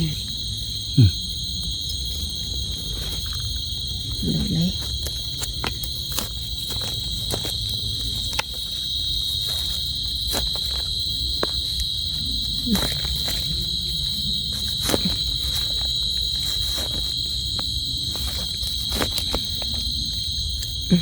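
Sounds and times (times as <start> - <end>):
night insects chorus: 0.0 - 21.0.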